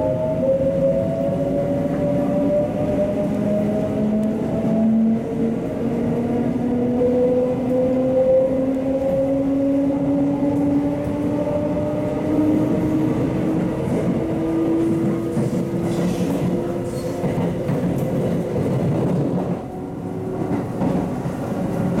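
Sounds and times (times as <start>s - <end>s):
train running noise: 0.0s - 22.0s.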